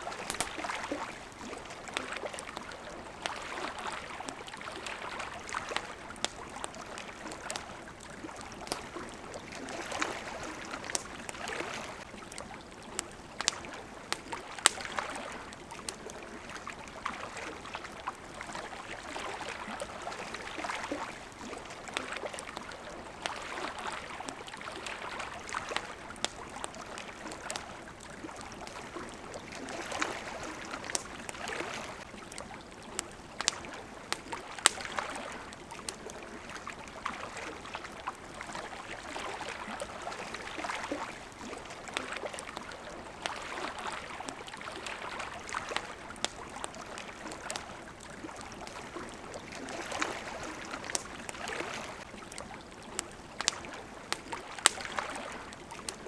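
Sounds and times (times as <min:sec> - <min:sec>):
campfire crackling and popping: 0:00.0 - 0:56.0
water lapping and trickling: 0:00.0 - 0:56.0.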